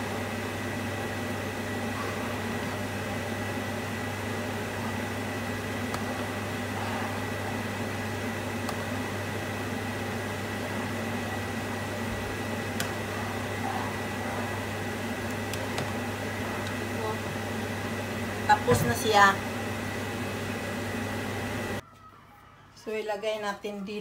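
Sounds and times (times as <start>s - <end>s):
induction hob hum: 0.0s - 21.8s.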